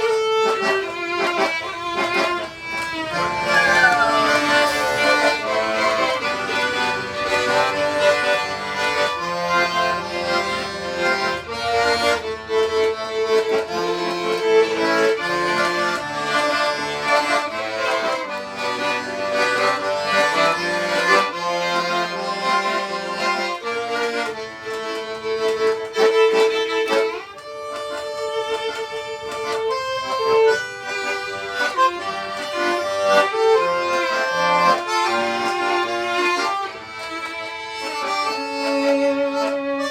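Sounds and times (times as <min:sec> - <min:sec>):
instrumental duo playing live: 0:00.0 - 0:39.9.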